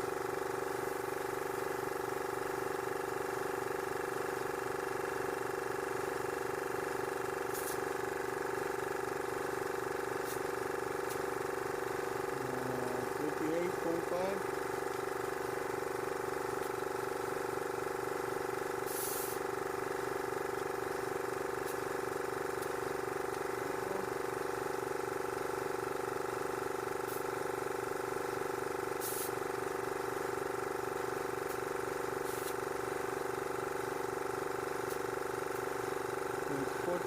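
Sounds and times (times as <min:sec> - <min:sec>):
electric air compressor pumping: 0:00.0 - 0:37.0.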